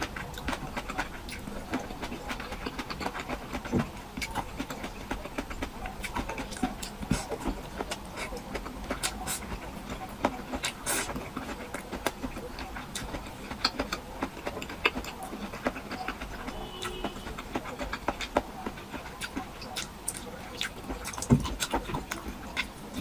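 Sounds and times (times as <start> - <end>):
chewing with wet mouth clicks: 0.0 - 23.0.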